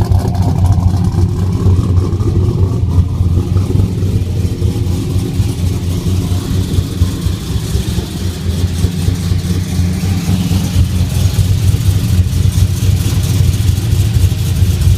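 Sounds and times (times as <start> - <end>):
engine idling with choppy beat: 0.0 - 14.9.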